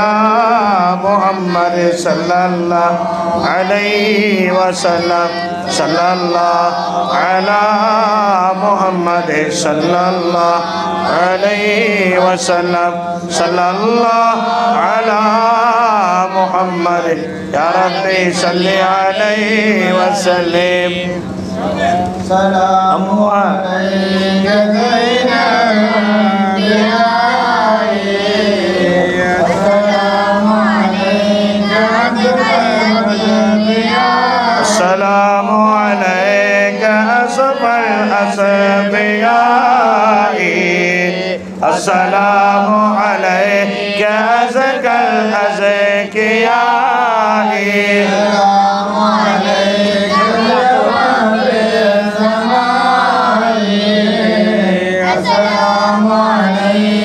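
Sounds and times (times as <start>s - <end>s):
men chanting through a microphone: 0.0s - 57.0s
steady low hum: 0.0s - 57.0s.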